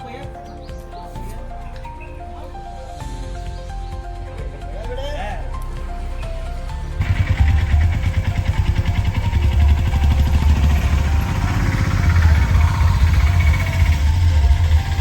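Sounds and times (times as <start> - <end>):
melody line: 0.0 - 15.0
fast loud percussion drumming: 2.1 - 15.0.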